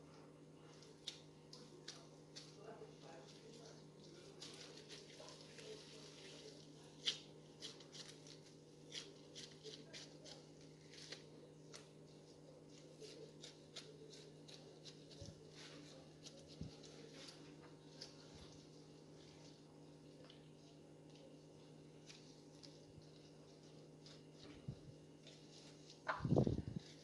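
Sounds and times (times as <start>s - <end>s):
plastic crinkling and rustling: 0.8s - 27.0s.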